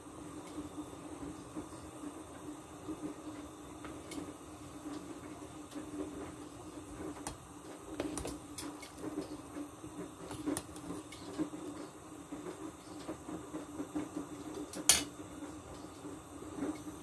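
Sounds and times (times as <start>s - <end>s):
soup bubbling in a pot: 0.0s - 17.0s
steady low hum: 0.0s - 17.0s.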